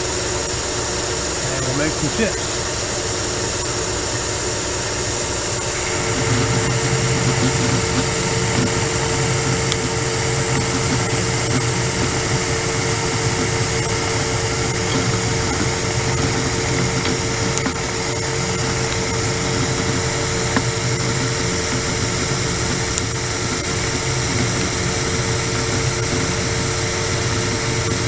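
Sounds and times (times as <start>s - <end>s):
metal lathe cutting steel: 0.0s - 28.0s.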